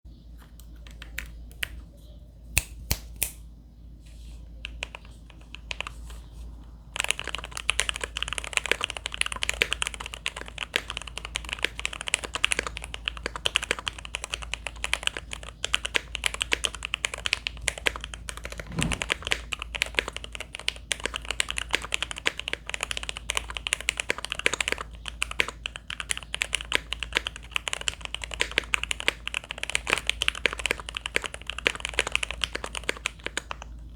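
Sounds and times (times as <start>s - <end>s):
mechanical keyboard typing: 4.6s - 6.0s, 7.0s - 33.8s.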